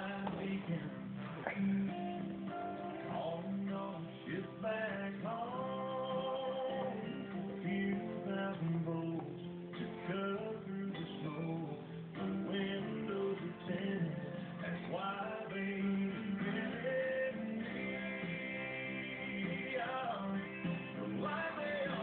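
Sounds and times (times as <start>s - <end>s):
guitar: 0.0s - 22.0s
man singing: 0.0s - 22.0s.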